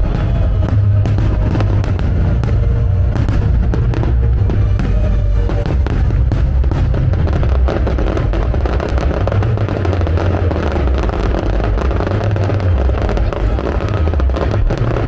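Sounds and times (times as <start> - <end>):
fireworks banging and crackling: 0.0 - 15.0
loud music with heavy bass: 0.0 - 15.0.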